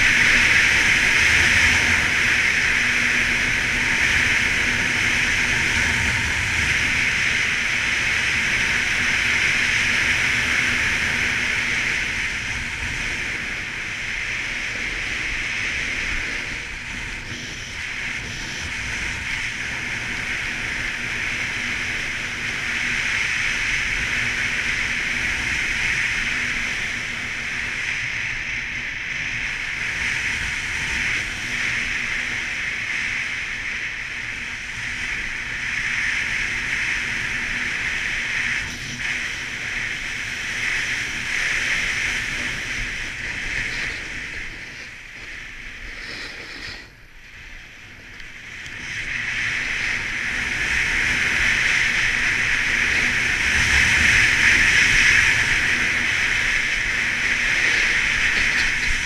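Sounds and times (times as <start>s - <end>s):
snowboard sliding over snow: 0.0s - 59.0s
wind on microphone: 0.0s - 59.0s.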